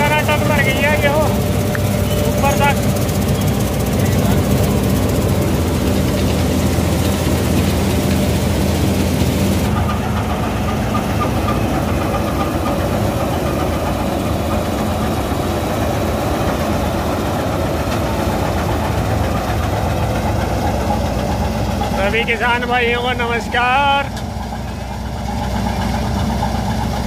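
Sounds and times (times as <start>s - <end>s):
combine cutting wheat: 0.0s - 24.3s
combine harvester engine running: 0.0s - 27.0s.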